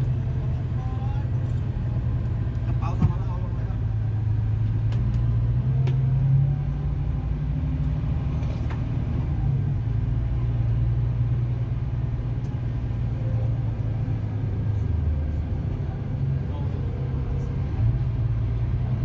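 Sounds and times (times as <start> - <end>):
bus engine humming: 0.0 - 19.0
road rumble: 0.0 - 19.0.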